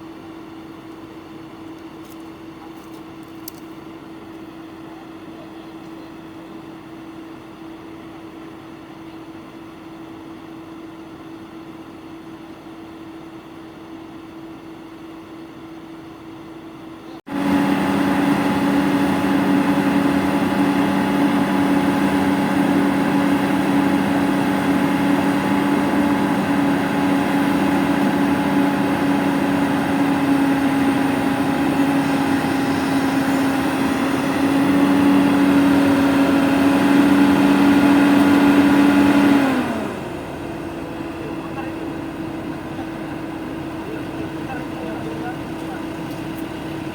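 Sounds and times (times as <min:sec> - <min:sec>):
excavator engine running: 0:00.0 - 0:46.9
quieter engine hum: 0:00.0 - 0:46.9.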